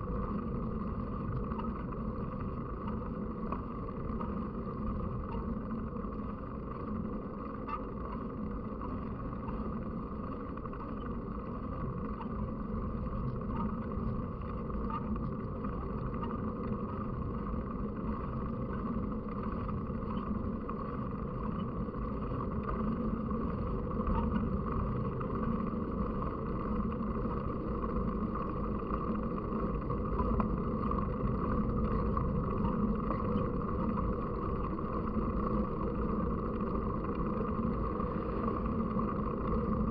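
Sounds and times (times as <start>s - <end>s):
faint ticks and rattles: 0.0s - 39.9s.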